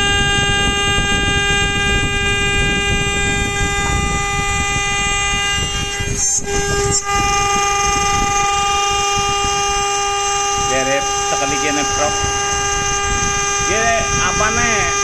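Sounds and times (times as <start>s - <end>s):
cnc router spindle whine: 0.0s - 15.0s
gritty metal cutting noise: 0.0s - 15.0s.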